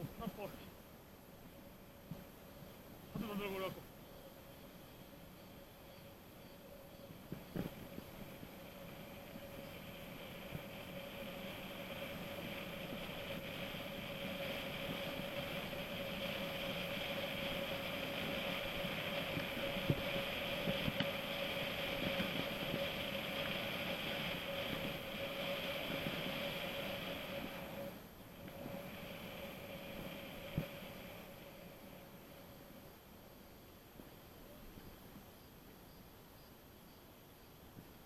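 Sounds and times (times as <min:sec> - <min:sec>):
bicycle tyres and drivetrain buzzing: 0:01.2 - 0:34.4.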